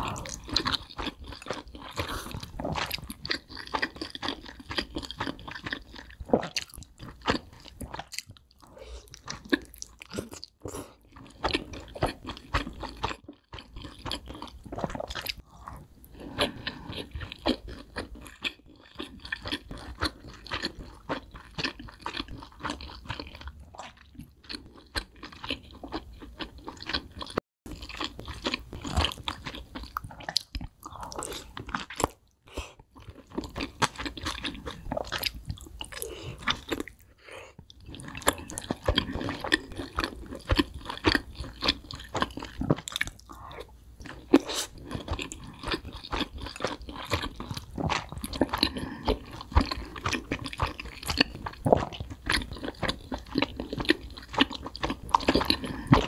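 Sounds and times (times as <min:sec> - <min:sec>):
crunchy chewing: 0:00.0 - 0:32.2, 0:37.7 - 0:56.0.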